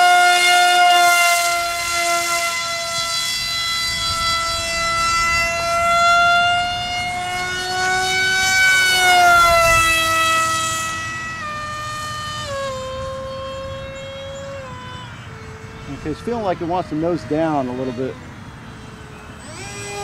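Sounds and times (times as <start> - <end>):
electric propeller motor whine: 0.0 - 20.0.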